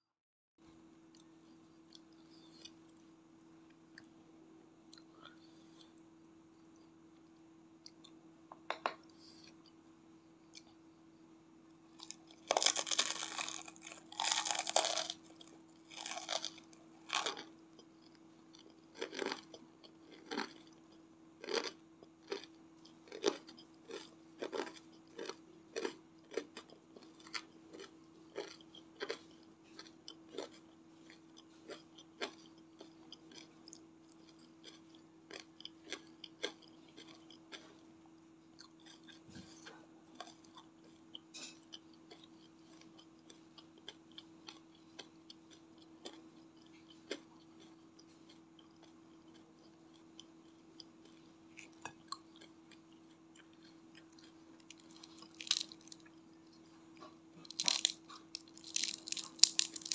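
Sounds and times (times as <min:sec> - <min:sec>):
crunchy chewing: 0:11.9 - 0:59.9.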